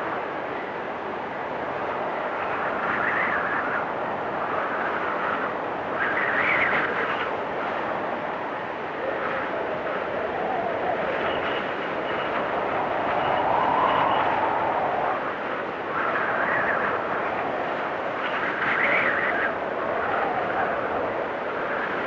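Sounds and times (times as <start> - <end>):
blizzard wind gusting: 0.0 - 22.0
whistling howl of wind: 0.0 - 22.0.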